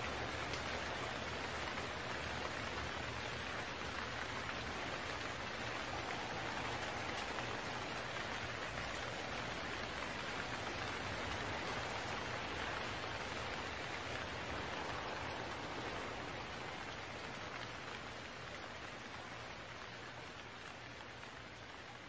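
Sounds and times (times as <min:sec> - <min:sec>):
steady rain-like hiss: 0:00.0 - 0:22.0.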